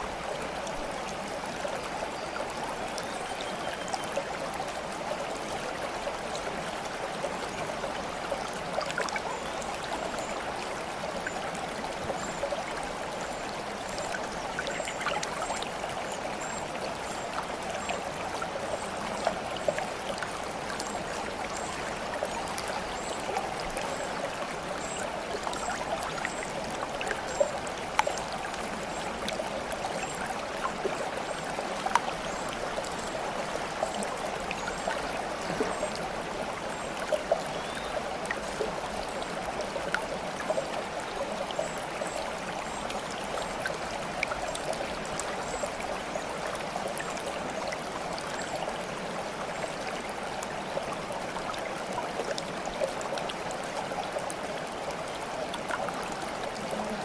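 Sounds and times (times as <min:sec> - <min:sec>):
small water splashes: 0:00.0 - 0:57.0
stream water babbling: 0:00.0 - 0:57.0.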